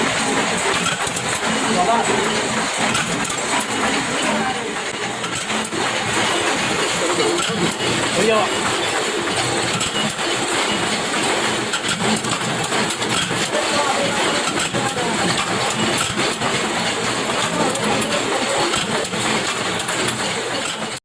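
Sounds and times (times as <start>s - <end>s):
workshop machinery running: 0.0s - 21.0s.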